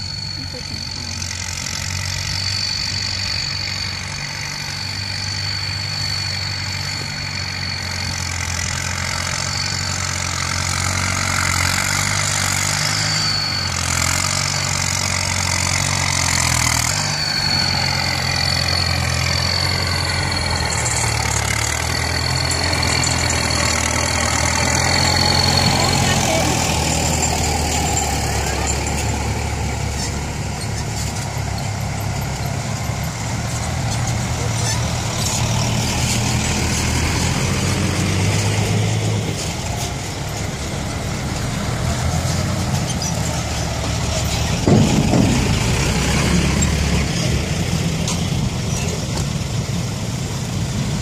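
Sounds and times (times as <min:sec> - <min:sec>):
tractor diesel engine running: 0:00.0 - 0:51.0
blade pushing soil: 0:04.4 - 0:49.3.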